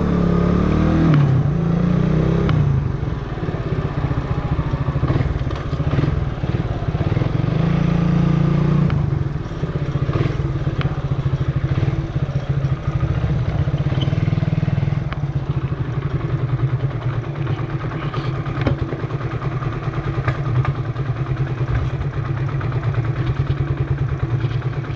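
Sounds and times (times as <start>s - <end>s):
motorcycle engine riding: 0.0s - 24.9s.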